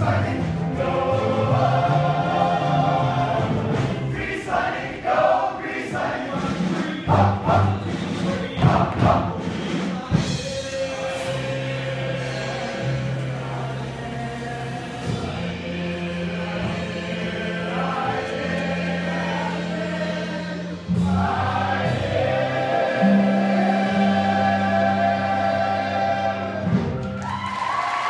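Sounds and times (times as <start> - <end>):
ensemble singing: 0.0 - 27.2
instrumental accompaniment: 0.0 - 27.4.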